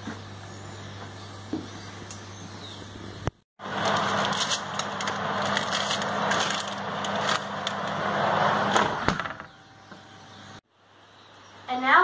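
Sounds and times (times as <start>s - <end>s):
oven humming: 0.0s - 10.6s.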